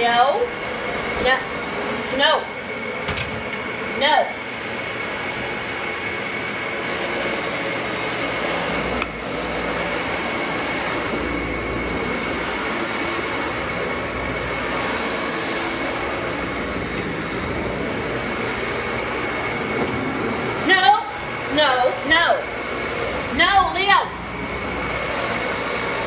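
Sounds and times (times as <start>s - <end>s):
vacuum cleaner running on carpet: 0.0s - 26.0s.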